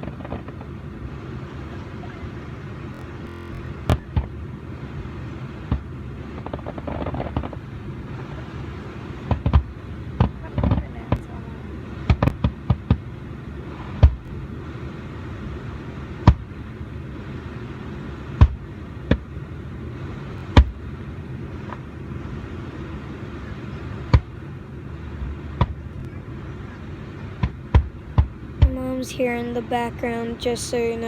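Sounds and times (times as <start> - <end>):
low background noise: 0.0 - 31.0.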